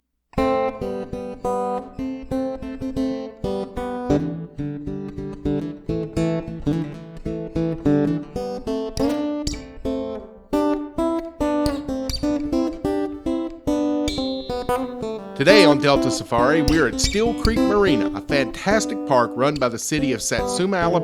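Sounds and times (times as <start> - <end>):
acoustic guitar strumming: 0.4 - 21.0.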